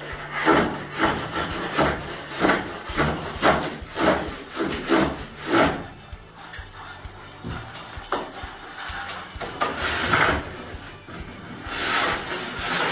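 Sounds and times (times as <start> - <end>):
hand rasp scraping plaster: 0.0 - 12.9.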